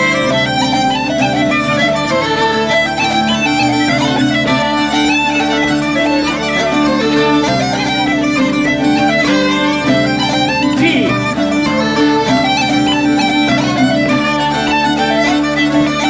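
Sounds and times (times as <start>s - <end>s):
fiddle melody: 0.0s - 16.0s
strummed bouzouki: 0.0s - 16.0s.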